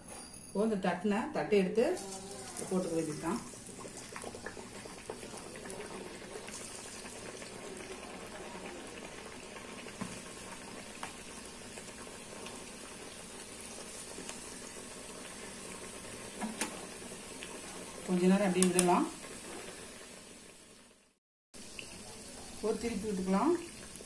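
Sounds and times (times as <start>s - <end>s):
hot oil bubbling and sizzling: 1.8s - 24.0s.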